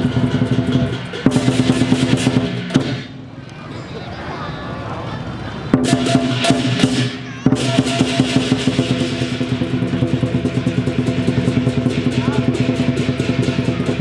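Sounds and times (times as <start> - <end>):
drum beating fast: 0.0 - 3.1, 5.7 - 14.0
cymbals clashing: 0.0 - 3.2, 5.7 - 14.0.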